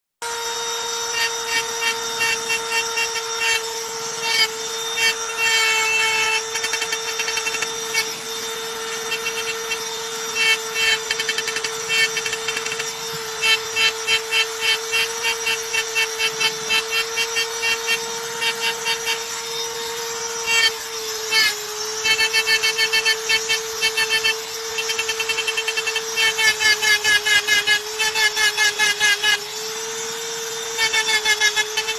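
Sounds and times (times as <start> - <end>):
rotary engraving tool whining: 0.2 - 31.9
grinding on stone: 0.6 - 31.9.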